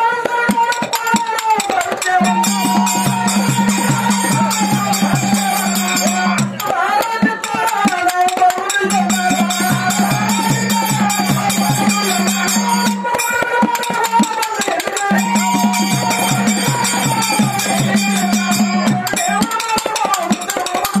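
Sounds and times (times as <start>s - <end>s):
jingling hand percussion: 0.0s - 21.0s.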